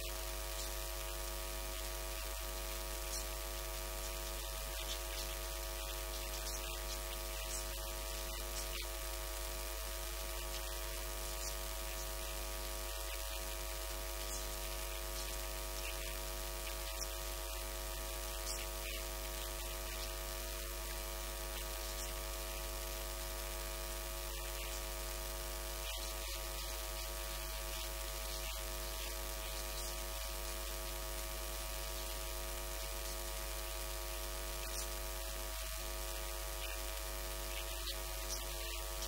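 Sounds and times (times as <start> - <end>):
electrical mains hum and buzz: 0.0 - 39.0
static hiss: 0.0 - 39.0.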